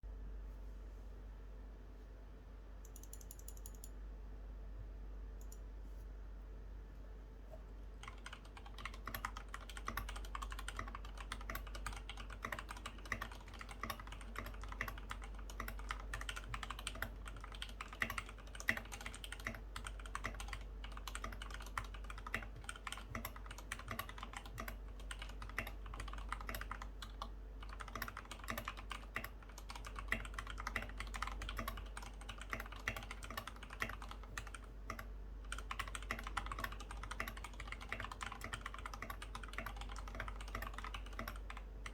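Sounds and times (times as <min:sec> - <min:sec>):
low steady hum: 0:00.0 - 0:41.9
mechanical keyboard typing: 0:02.9 - 0:03.9, 0:08.0 - 0:41.9.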